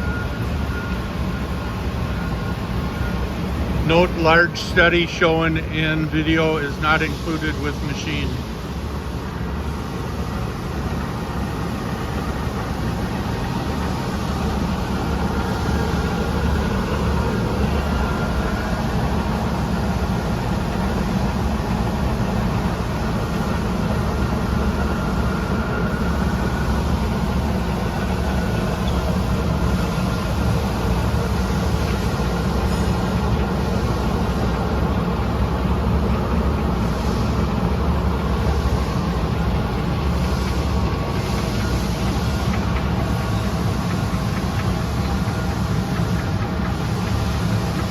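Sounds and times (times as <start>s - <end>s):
lathe motor humming: 0.0s - 47.9s.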